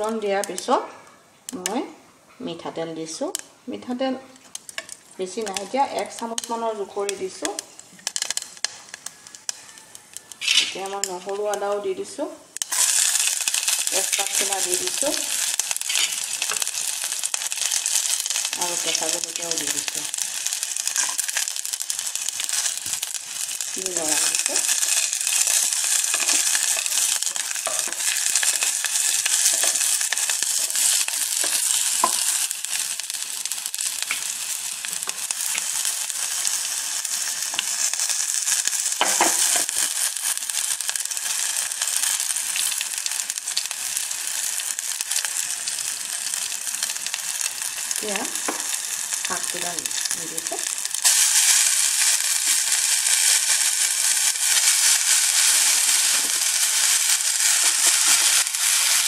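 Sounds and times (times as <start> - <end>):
spices sizzling in hot oil: 2.5 - 59.0.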